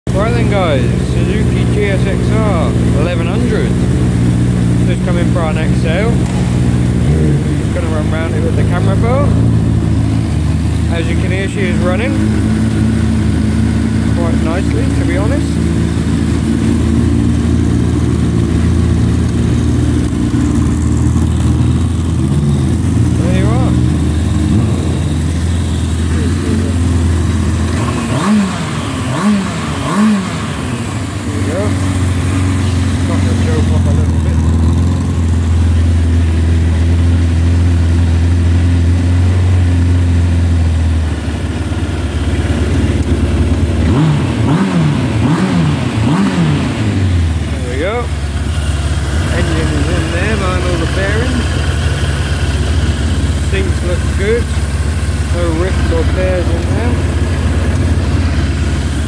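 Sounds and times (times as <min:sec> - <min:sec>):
engine revving with throttle blips: 0:00.0 - 0:59.0
motorcycle engine idling: 0:00.1 - 0:59.0.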